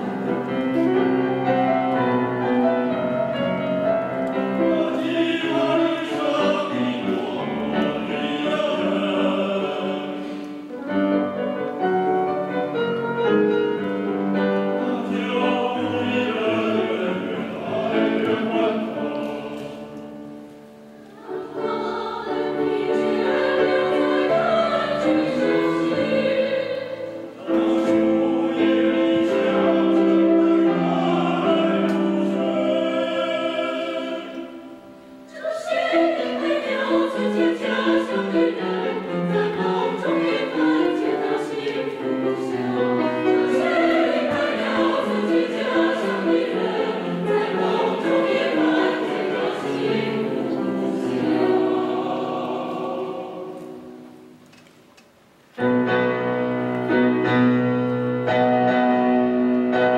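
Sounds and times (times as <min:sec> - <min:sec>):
mixed choir singing: 0:00.0 - 0:54.3.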